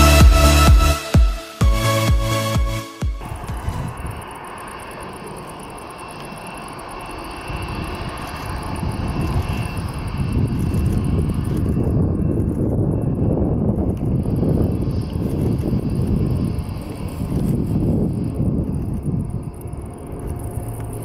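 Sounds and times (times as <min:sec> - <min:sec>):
jet engines with high whine: 0:02.9 - 0:21.0.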